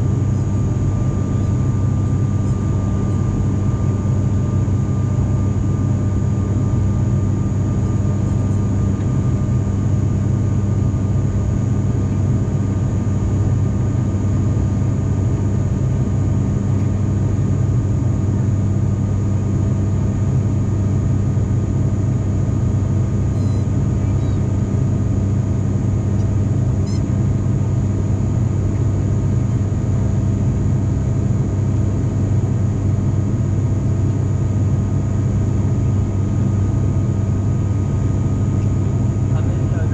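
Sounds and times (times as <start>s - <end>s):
turboprop engines drone in cabin: 0.0s - 39.9s.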